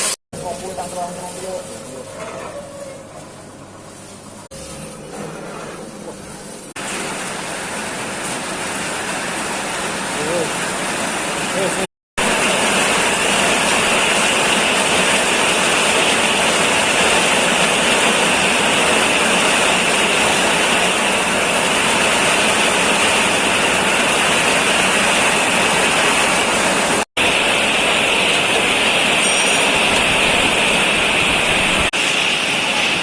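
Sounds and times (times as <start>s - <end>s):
coffee roasting machine rushing: 0.0s - 33.0s.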